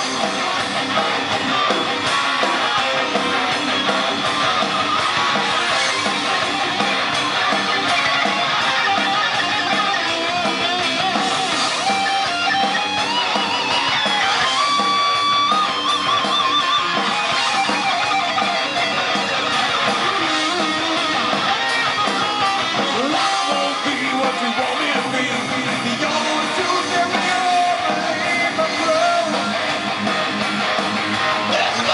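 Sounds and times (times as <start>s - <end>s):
lead guitar melody: 0.0s - 31.9s
rock band playing live: 0.0s - 31.9s.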